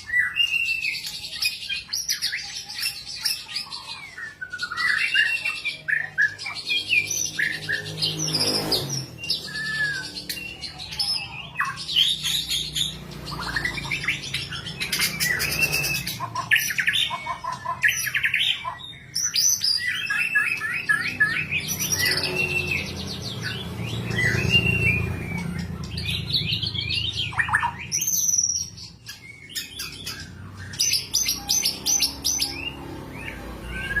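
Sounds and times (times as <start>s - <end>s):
bird singing whistled song: 0.0s - 34.0s.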